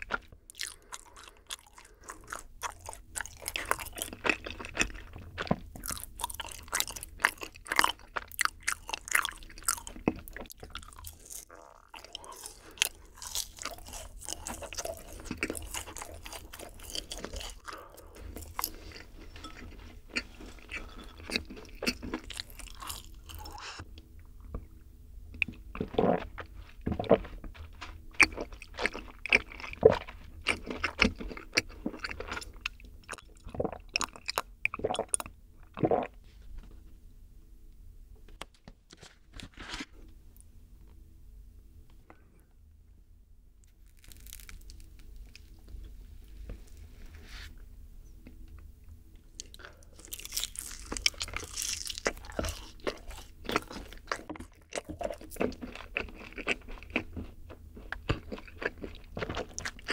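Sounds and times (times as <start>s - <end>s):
chewing crunchy sticky cookies: 0.0s - 36.2s, 43.6s - 47.1s, 48.2s - 59.9s.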